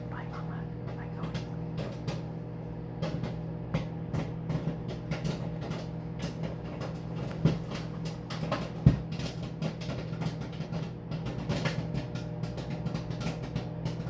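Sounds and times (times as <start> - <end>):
microwave oven hum and fan: 0.0 - 14.0
popcorn popping: 0.0 - 14.0.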